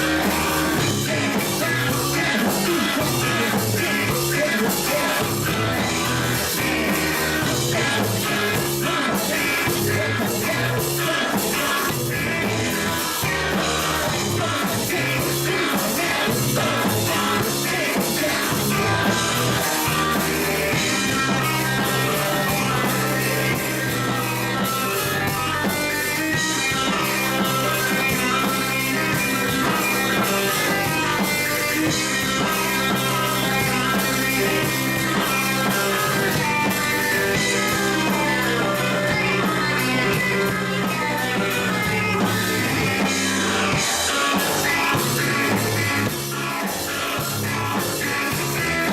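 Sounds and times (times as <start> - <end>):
guitar: 0.0 - 48.9
person singing: 0.0 - 48.9
rock band playing: 0.0 - 48.9.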